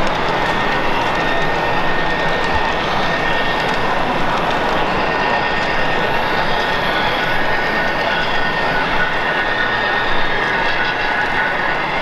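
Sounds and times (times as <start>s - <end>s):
model locomotive engine drone: 0.0s - 12.0s.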